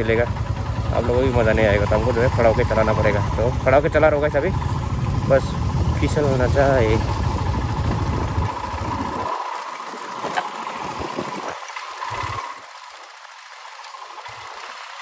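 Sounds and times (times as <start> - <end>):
motorcycle engine running slowly: 0.0 - 15.0.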